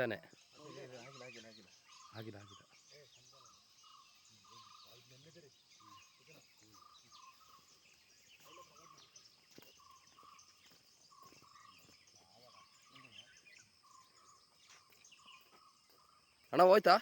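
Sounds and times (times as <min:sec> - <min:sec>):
faint hushed voices: 0:00.0 - 0:16.2.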